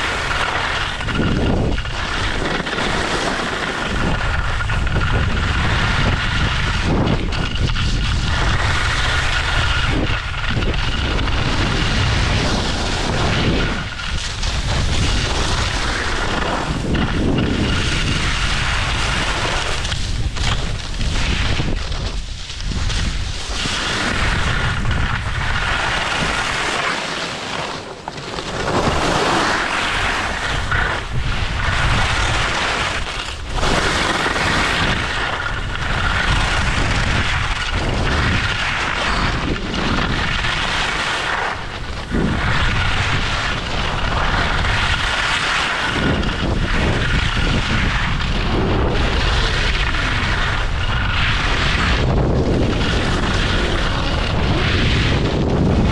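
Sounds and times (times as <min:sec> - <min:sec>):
skis scraping on snow: 0:00.0 - 0:55.9
wind rumbling over microphone: 0:00.0 - 0:55.9.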